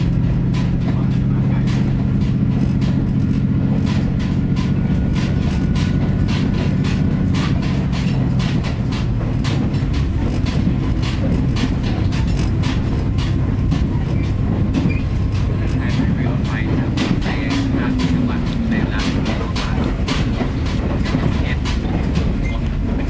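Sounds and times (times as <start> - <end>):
railcar low rumble: 0.0 - 23.0
wheels clicking over rail joints: 0.0 - 23.0.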